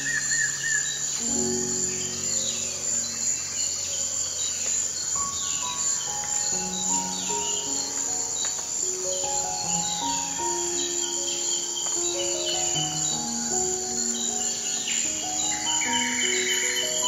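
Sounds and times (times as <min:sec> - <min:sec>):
birds chirping: 0:00.0 - 0:17.0
crickets chirping: 0:00.0 - 0:17.0
slow ambient music: 0:00.0 - 0:17.0.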